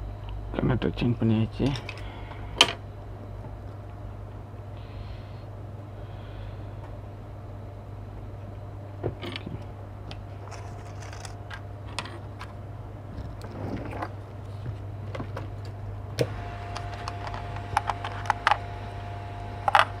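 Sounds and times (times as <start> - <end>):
faint steady whine: 0.0 - 20.0
steady low hum: 0.0 - 20.0.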